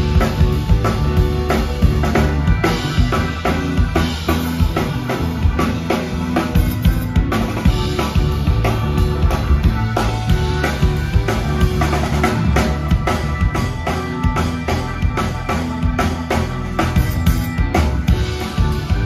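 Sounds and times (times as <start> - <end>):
drum kit beat: 0.0 - 19.0
live rock band playing: 0.0 - 19.0.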